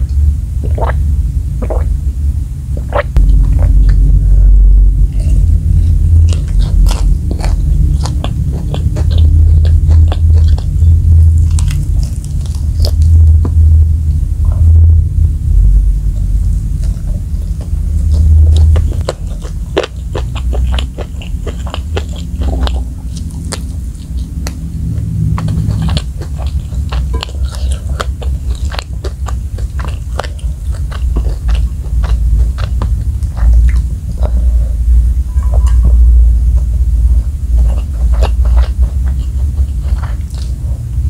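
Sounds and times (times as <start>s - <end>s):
chewing and biting fried food: 0.0s - 1.0s, 2.8s - 13.8s, 16.0s - 41.0s
low rumble: 0.0s - 41.0s.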